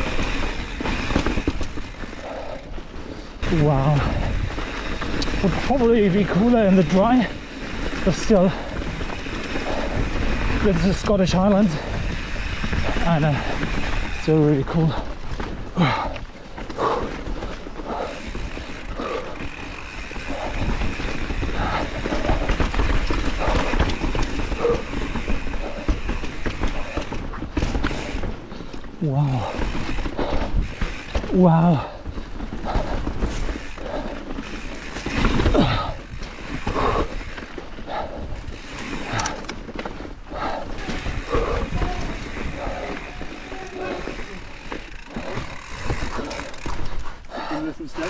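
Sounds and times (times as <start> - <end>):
bike chain and frame rattling: 0.0 - 48.0
bike tyres clattering over rock: 0.0 - 48.0.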